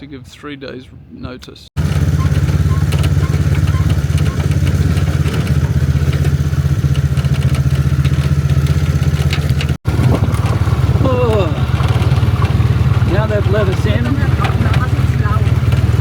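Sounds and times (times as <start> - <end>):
motorcycle engine idling: 1.8 - 16.0.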